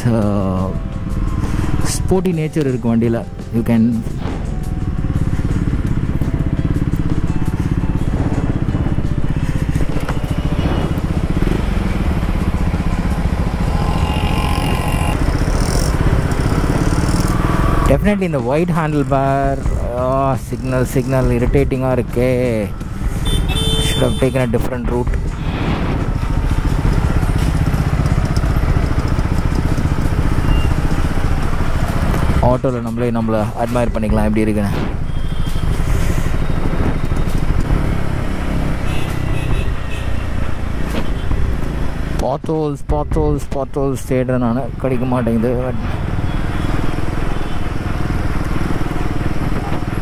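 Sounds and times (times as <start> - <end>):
motorcycle engine running: 4.0 - 32.6, 33.6 - 42.2, 44.5 - 50.0.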